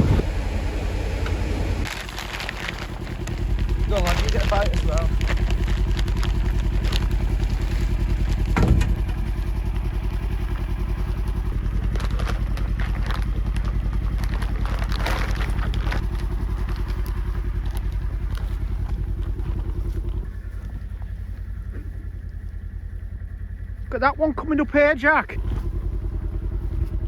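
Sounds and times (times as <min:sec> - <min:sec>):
buggy engine running: 0:00.0 - 0:27.0.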